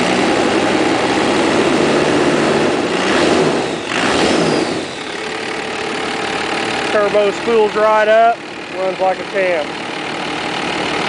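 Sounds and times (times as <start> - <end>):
diesel engine revving: 0.0 - 11.0
turbo spooling whine: 0.1 - 11.0.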